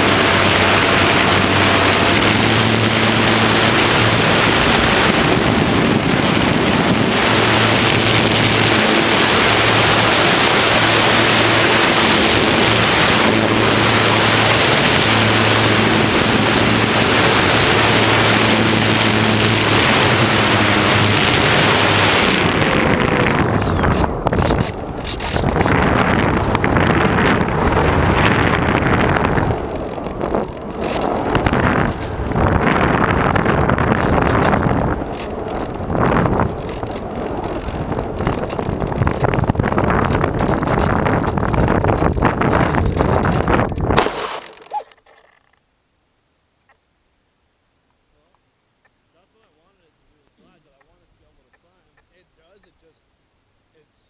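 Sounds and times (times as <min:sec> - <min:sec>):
wind blowing across microphone: 0:00.0 - 0:44.3.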